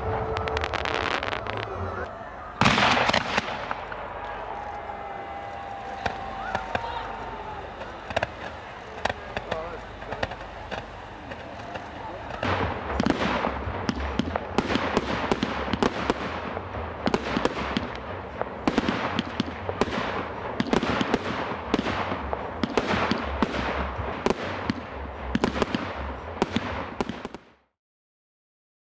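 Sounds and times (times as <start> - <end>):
fireworks bangs echoing: 0.0 - 27.6
fireworks crackling: 0.0 - 27.7.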